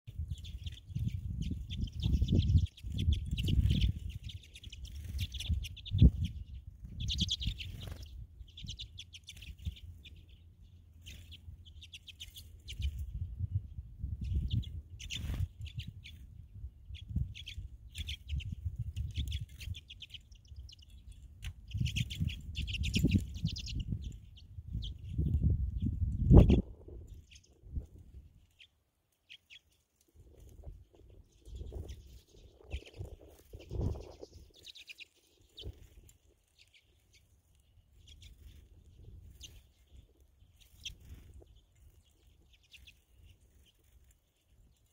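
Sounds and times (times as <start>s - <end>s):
songbirds chirping: 0.0s - 44.9s
wind rumbling on microphone: 0.1s - 28.5s, 30.2s - 36.4s, 37.8s - 44.8s.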